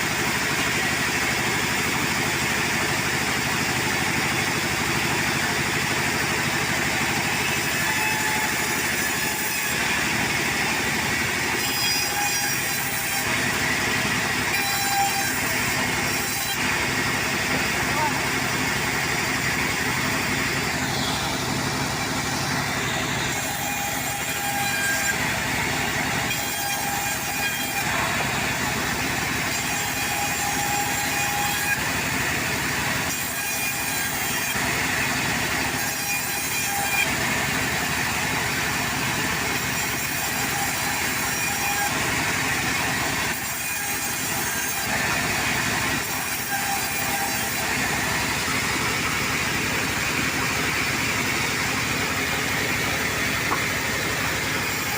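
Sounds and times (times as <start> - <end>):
sawmill sawing through wood: 0.0 - 54.9.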